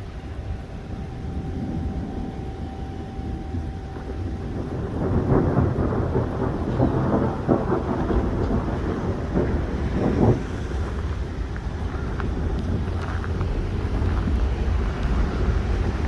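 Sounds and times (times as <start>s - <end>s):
low rumble of thunder: 0.0s - 16.0s
rain falling: 0.0s - 16.0s
wind buffeting microphone: 0.0s - 16.0s.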